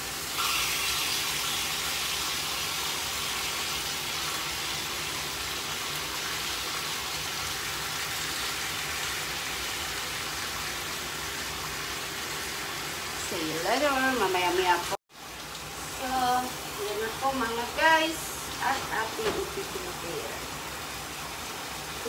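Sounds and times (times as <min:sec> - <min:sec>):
pork frying in hot oil: 0:00.0 - 0:22.0.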